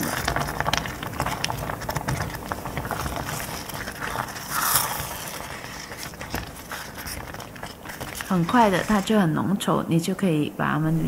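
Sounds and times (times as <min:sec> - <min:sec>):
spatula stirring: 0:00.0 - 0:09.4
thick filling bubbling and popping: 0:00.0 - 0:09.4.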